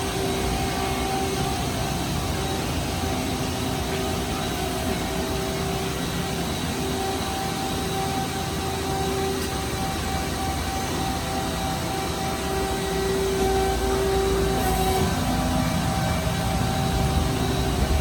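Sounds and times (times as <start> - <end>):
machine hum with whining tones: 0.0 - 18.0.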